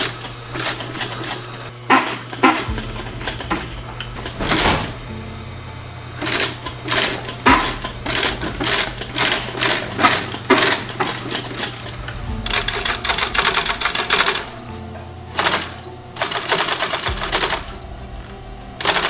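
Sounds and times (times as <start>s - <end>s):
sewing machine stitching leather: 0.0s - 5.0s, 6.2s - 14.6s, 15.3s - 17.8s, 18.8s - 19.0s
sewing machine motor hum: 0.0s - 19.0s.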